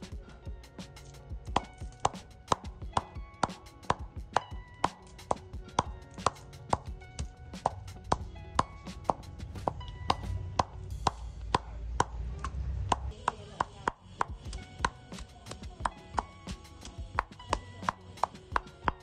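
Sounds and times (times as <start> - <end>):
wooden pestle pounding in mortar: 1.4 - 19.0.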